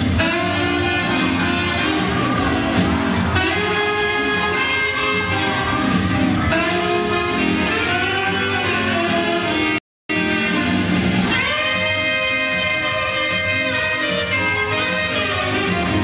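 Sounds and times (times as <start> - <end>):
dance music: 0.0 - 16.0.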